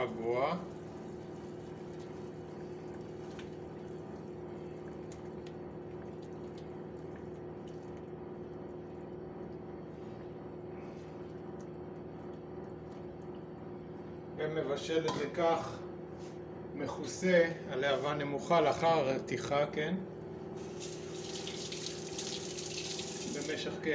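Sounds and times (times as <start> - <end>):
steady hum: 0.0 - 23.9.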